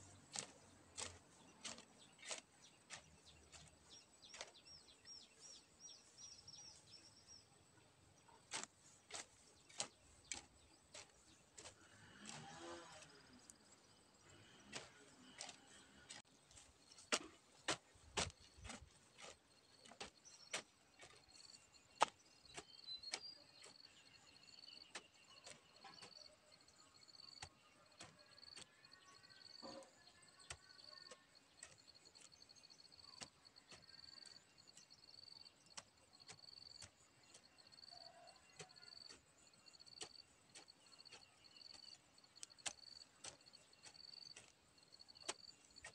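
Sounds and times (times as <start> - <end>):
hand hoe striking dry soil: 0.0 - 45.9.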